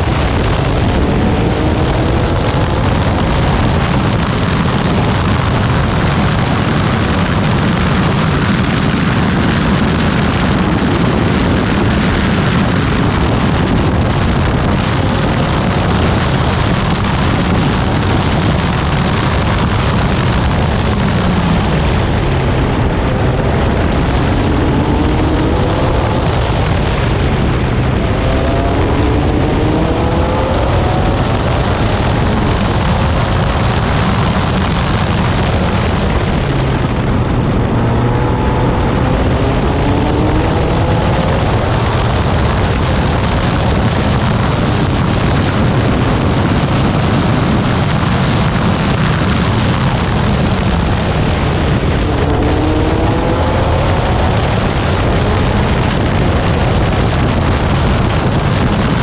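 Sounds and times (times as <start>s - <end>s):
racing car engine: 0.0s - 59.0s
wind noise: 0.0s - 59.0s.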